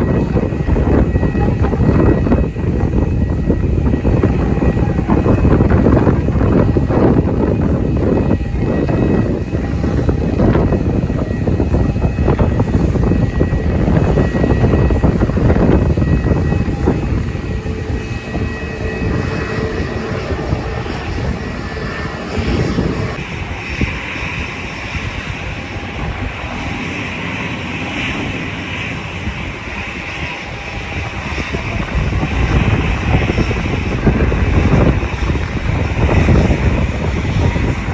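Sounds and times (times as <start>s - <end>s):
high engine whine: 0.0s - 37.9s
jet engines rumbling: 0.0s - 37.9s.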